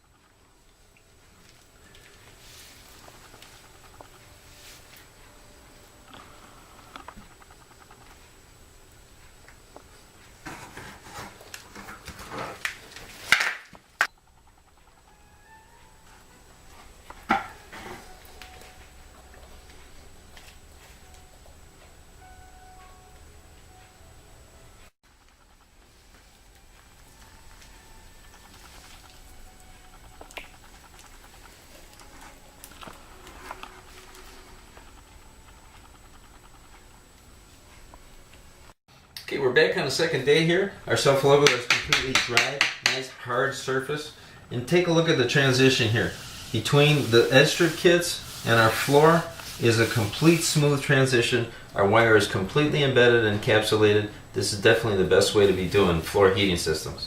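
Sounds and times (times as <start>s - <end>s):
low steady hiss: 0.0s - 30.8s, 37.0s - 57.0s
thin high whine: 0.0s - 41.7s, 42.8s - 57.0s.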